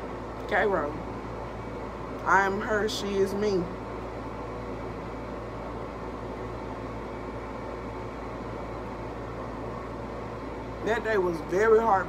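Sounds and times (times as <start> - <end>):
machinery hum with hiss: 0.0 - 12.0.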